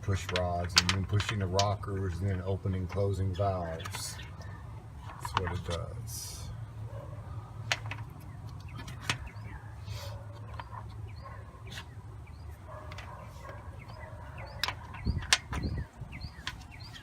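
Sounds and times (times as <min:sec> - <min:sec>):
engine parts clicking and knocking: 0:00.0 - 0:06.4, 0:07.6 - 0:09.6, 0:10.2 - 0:17.0
birds chirping: 0:00.0 - 0:17.0.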